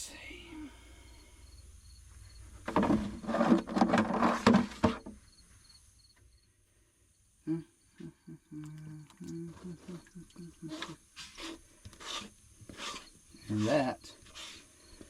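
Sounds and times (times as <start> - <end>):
faint insect chirps: 0.0 - 2.6, 5.1 - 15.0.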